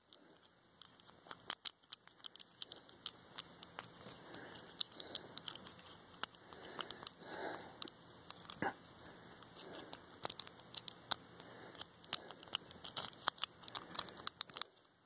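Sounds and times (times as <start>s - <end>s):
fingers rustling on lock: 0.1s - 7.2s, 9.2s - 14.9s.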